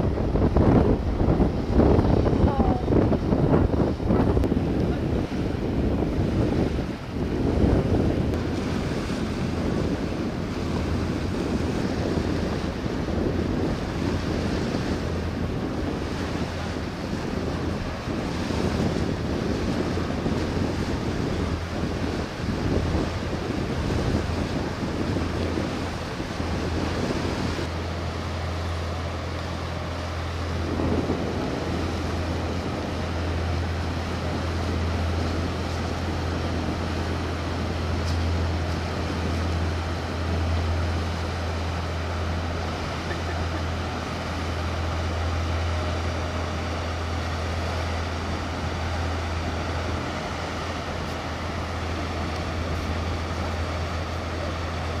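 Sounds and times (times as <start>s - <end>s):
ship engine drone: 0.0s - 55.0s
water wash: 0.0s - 55.0s
wind buffeting microphone: 0.0s - 55.0s.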